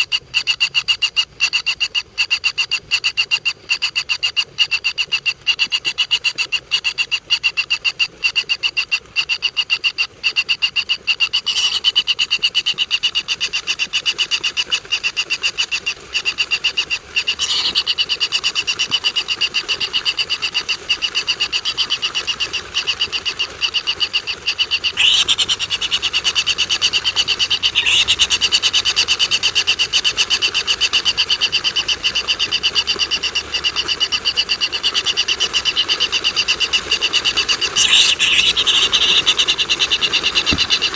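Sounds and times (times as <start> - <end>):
high-pitched pulsing animal calls: 0.0 - 40.9.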